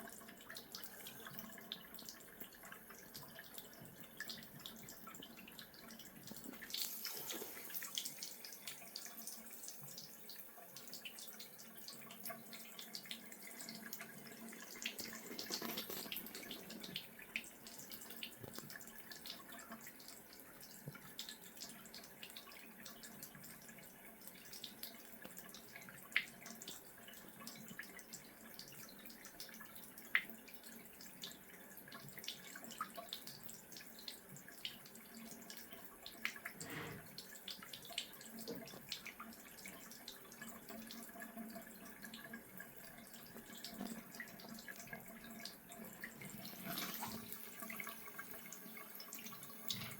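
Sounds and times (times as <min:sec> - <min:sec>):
cat lapping water: 0:00.0 - 0:49.9
water dripping and trickling: 0:00.0 - 0:49.9.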